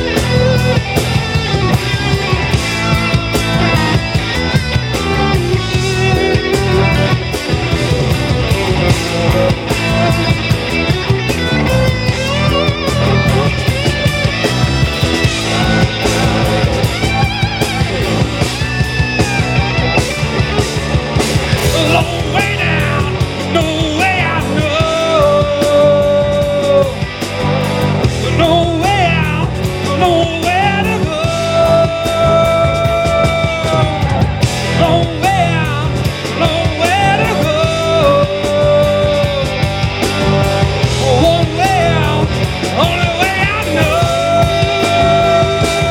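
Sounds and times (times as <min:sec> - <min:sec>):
bass: 0:00.0 - 0:45.9
drums: 0:00.0 - 0:45.9
lead guitar with bent notes: 0:00.0 - 0:45.9
rock band playing: 0:00.0 - 0:45.9.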